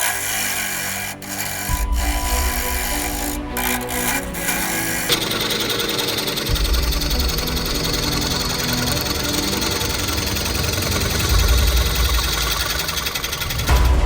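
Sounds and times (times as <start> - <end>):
wood lathe tool chatter: 0.0 - 13.9.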